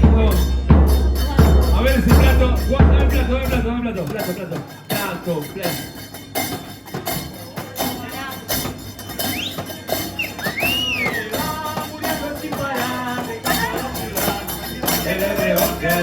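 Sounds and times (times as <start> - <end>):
percussion carnival beat: 0.0 - 16.0.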